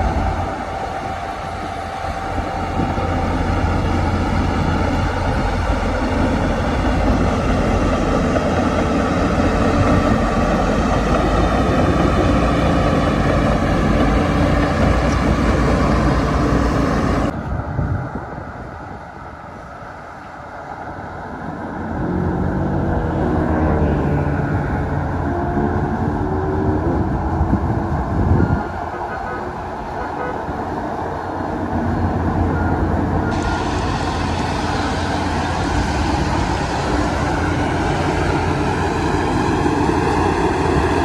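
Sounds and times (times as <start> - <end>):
heavy diesel machinery engine: 0.0 - 41.0.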